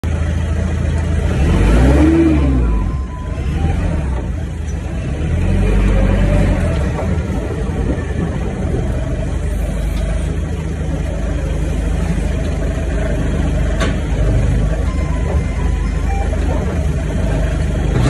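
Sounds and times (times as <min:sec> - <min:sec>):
forklift engine revving: 0:00.1 - 0:18.0.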